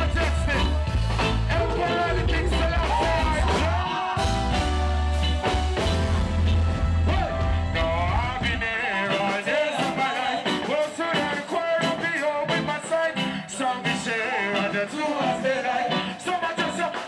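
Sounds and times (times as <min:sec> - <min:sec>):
person singing: 0:00.0 - 0:05.0, 0:07.0 - 0:17.0
reggae band playing: 0:00.0 - 0:17.0.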